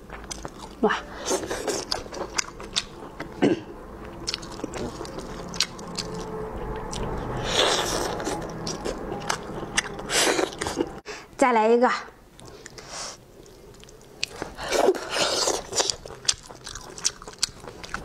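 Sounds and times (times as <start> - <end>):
chewing and biting with wet clicks: 0.0 - 3.3, 4.0 - 6.3, 6.9 - 10.8, 12.4 - 18.0.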